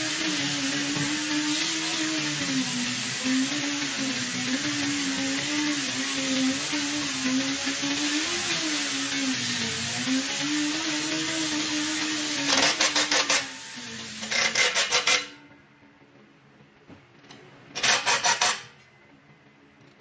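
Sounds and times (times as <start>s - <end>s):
impact wrench whining and hammering: 0.0s - 15.4s, 17.7s - 18.9s.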